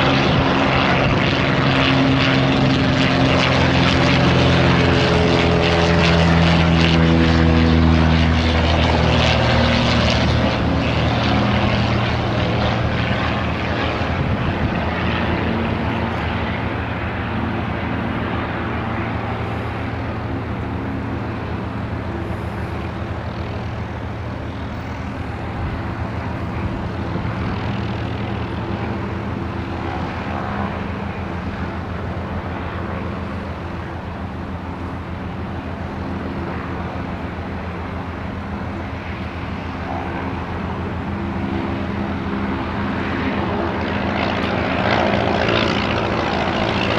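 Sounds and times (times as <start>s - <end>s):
light aircraft engine: 0.0s - 46.9s.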